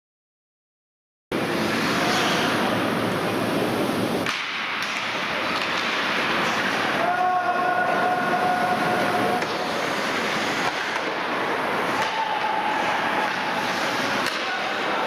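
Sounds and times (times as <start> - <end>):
ice hockey game in arena: 1.3 - 15.0.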